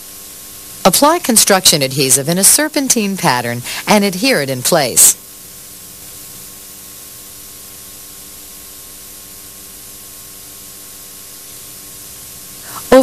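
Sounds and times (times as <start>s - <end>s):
faint hum tones: 0.0s - 13.0s
tape hiss: 0.0s - 13.0s.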